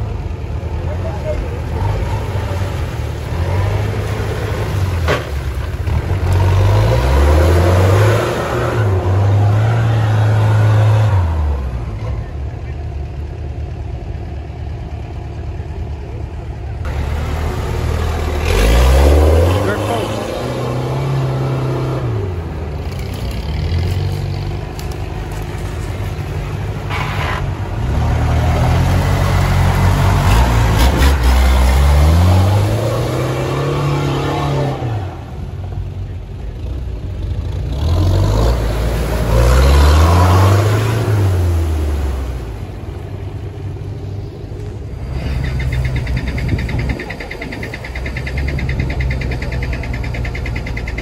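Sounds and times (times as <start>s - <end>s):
off-road engine revving: 0.0s - 13.8s, 14.8s - 51.0s.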